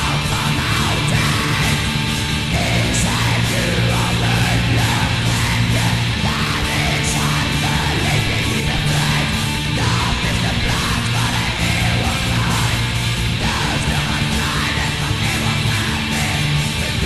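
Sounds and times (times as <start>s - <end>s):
distorted guitar: 0.0s - 17.0s
drums: 0.0s - 17.0s
low bass line: 0.0s - 17.0s.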